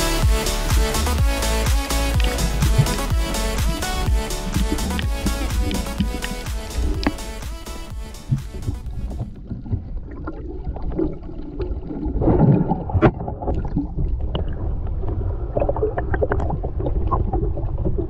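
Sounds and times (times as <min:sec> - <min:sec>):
water sloshing and bubbling: 0:00.0 - 0:18.0.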